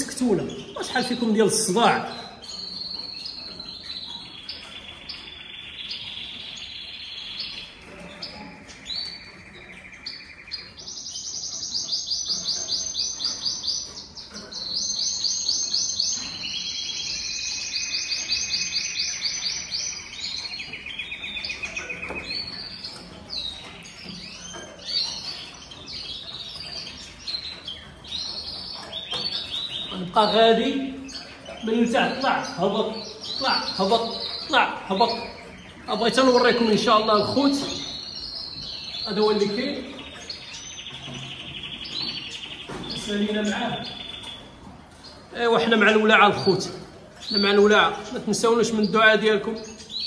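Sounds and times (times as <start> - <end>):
finches singing trills: 0.0 - 50.0.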